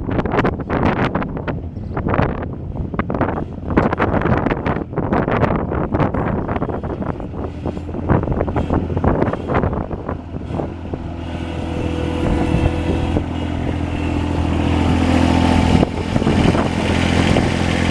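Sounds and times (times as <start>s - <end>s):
loader engine running: 0.0s - 17.9s.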